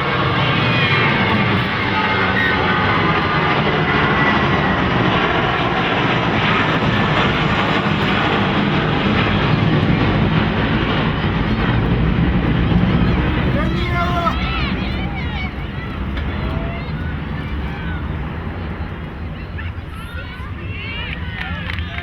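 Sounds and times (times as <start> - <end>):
aircraft engines passing overhead: 0.0 - 22.0.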